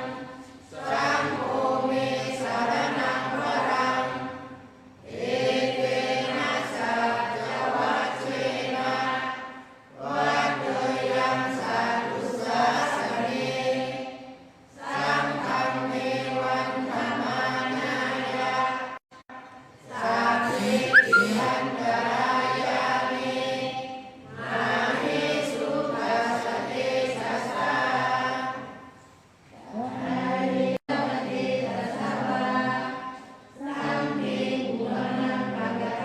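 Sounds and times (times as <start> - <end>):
group of voices chanting: 0.0 - 14.1, 14.8 - 19.0, 19.8 - 28.9, 29.6 - 36.0.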